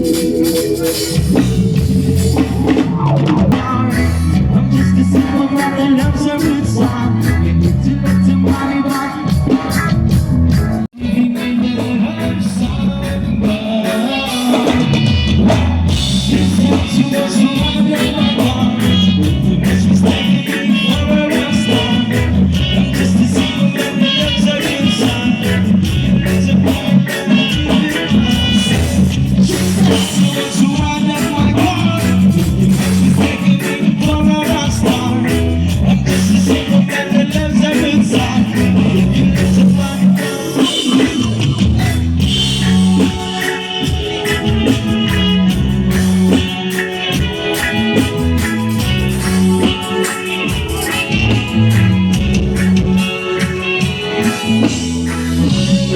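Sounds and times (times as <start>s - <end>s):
person singing: 0.0s - 10.0s, 11.0s - 55.9s
stepping bass line: 0.0s - 13.7s, 14.7s - 55.9s
drum kit: 0.0s - 55.9s
guitar: 0.0s - 55.9s.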